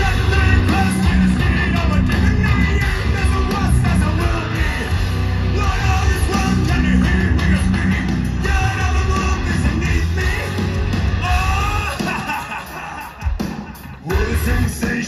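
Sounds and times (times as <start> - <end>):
heavy metal band playing live: 0.0 - 15.0
person singing: 0.0 - 15.0.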